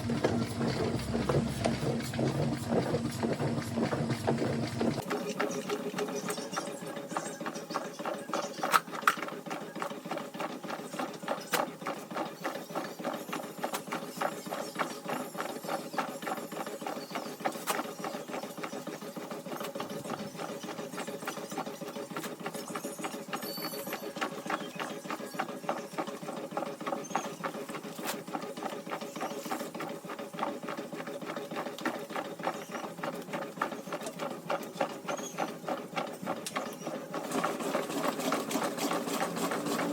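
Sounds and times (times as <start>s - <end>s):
rhythmic squeaking: 0.0s - 39.9s
washing machine running: 0.0s - 39.9s.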